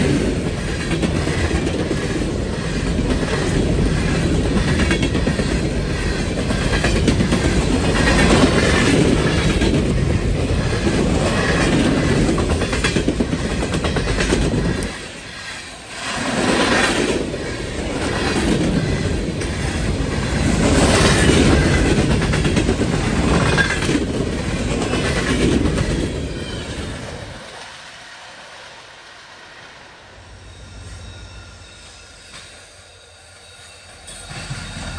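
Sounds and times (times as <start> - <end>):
freight train wheels on rails: 0.0 - 34.9.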